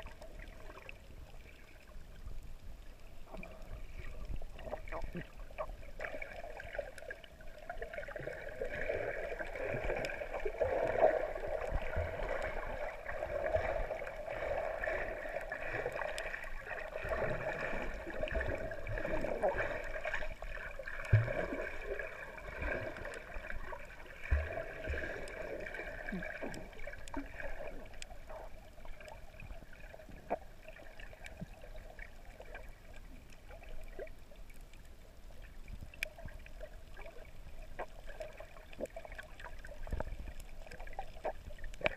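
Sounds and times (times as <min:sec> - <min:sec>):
underwater sea wash: 0:00.0 - 0:41.9.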